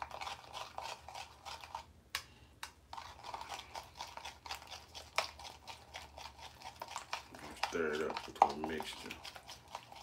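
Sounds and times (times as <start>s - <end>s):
spoon scraping crunchy mixture: 0.0s - 10.0s.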